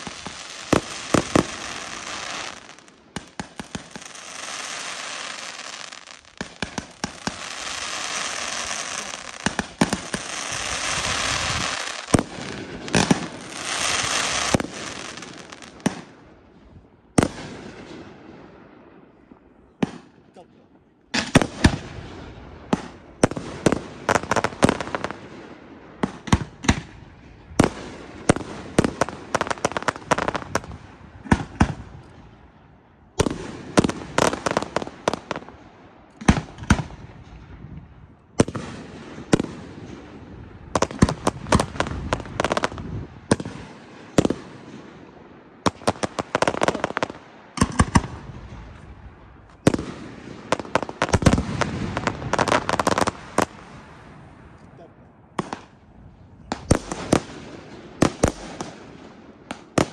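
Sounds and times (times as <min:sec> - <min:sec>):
fireworks bursting with sharp bangs: 0:00.0 - 0:20.2, 0:21.1 - 0:59.9.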